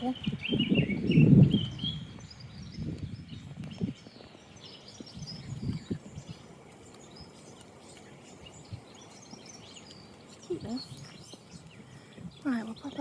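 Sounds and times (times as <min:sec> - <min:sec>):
low outdoor background: 0:00.0 - 0:13.0
songbirds chirping and singing: 0:00.0 - 0:13.0.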